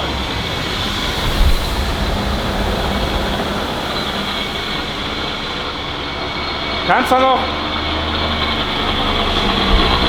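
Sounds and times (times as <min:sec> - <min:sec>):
drivetrain whirring rumble: 0:00.0 - 0:10.0
faint high whine: 0:00.0 - 0:10.0.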